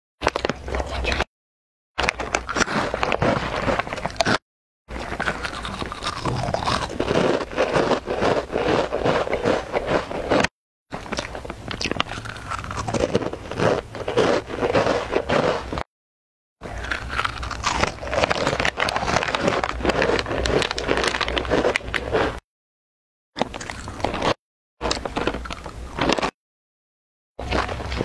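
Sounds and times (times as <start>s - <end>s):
crunchy snacks chewed close up: 0.2s - 1.3s, 2.0s - 15.9s, 16.6s - 22.4s, 23.4s - 26.4s, 27.4s - 28.0s.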